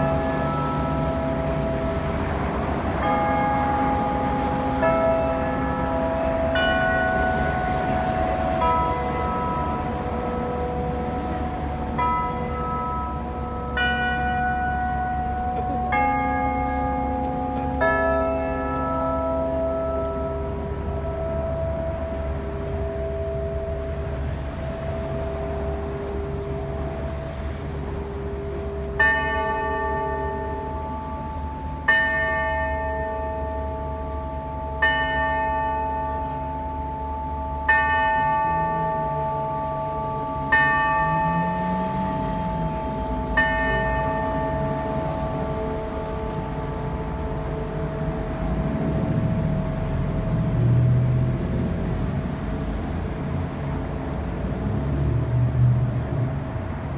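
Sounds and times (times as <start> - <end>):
clock tower bell striking: 0.0 - 52.3
city traffic hum: 0.0 - 56.9.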